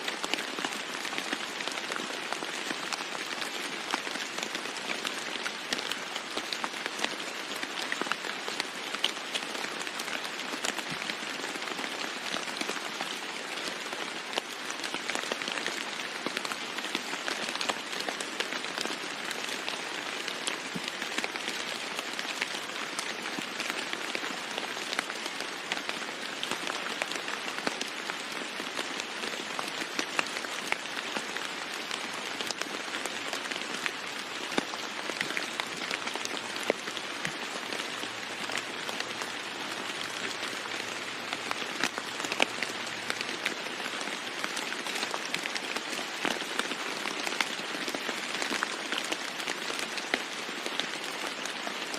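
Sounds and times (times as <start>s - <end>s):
heavy rain on a roof: 0.0s - 51.9s
raindrops ticking close by: 0.1s - 51.9s.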